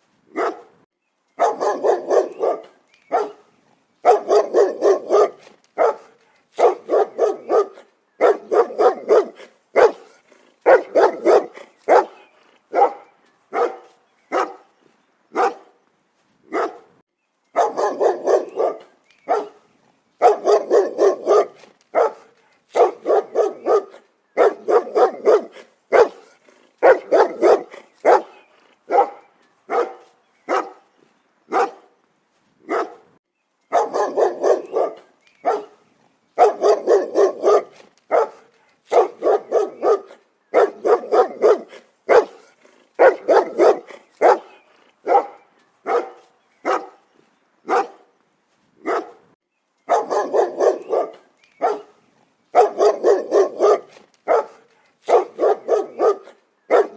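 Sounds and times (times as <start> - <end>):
dog barking: 0.3 - 0.8, 1.4 - 14.7, 15.3 - 15.8, 16.5 - 17.0, 17.6 - 30.9, 31.5 - 31.9, 32.6 - 33.1, 33.7 - 35.8, 36.4 - 47.0, 47.6 - 48.1, 48.8 - 49.3, 49.9 - 56.9.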